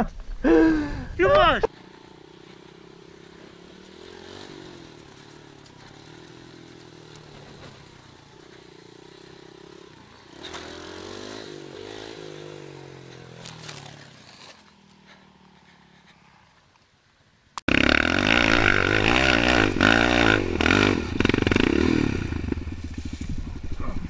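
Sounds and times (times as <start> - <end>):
dirt bike engine revving: 1.2 - 15.9, 17.7 - 24.0.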